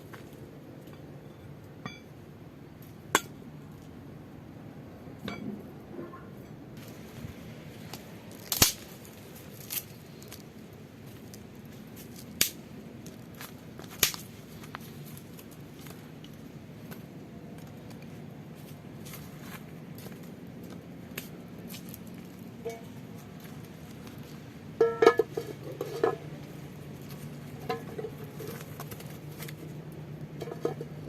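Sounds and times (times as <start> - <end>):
low background noise: 0.0 - 31.0.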